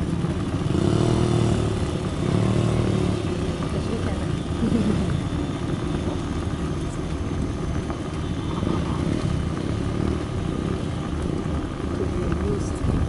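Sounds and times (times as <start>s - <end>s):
motor scooter engine rumble: 0.0s - 13.0s
wind buffeting microphone: 0.0s - 13.0s.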